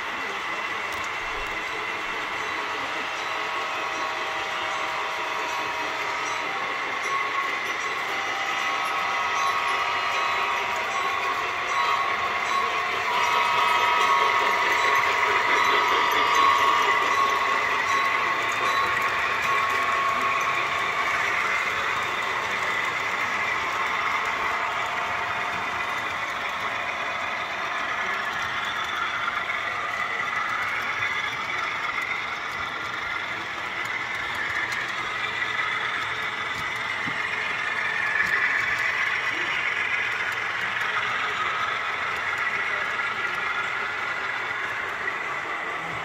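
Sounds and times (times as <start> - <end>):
faint wavering whine: 0.0 - 46.0
model train motors whirring: 0.0 - 46.0
wheels rolling on track: 0.0 - 46.0.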